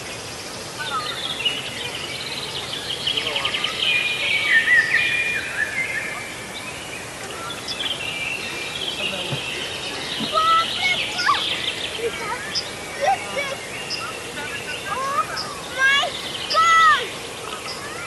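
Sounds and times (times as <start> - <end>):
small birds chirping and trilling: 0.0 - 18.0.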